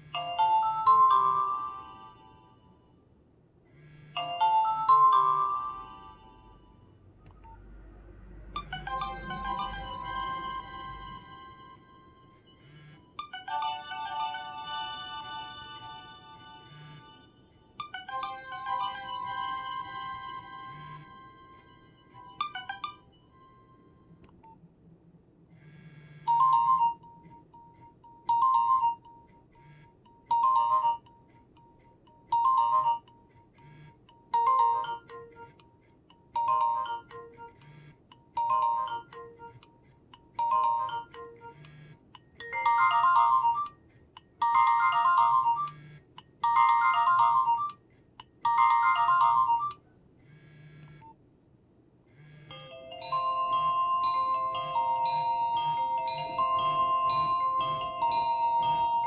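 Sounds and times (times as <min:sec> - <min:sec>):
mobile phone ringtone: 0:00.0 - 0:03.0, 0:03.9 - 0:07.6, 0:08.6 - 0:24.2, 0:25.7 - 0:31.4, 0:32.0 - 0:35.6, 0:36.3 - 0:39.8, 0:40.4 - 0:43.8, 0:44.4 - 0:47.8, 0:48.5 - 0:49.8, 0:52.5 - 0:59.0.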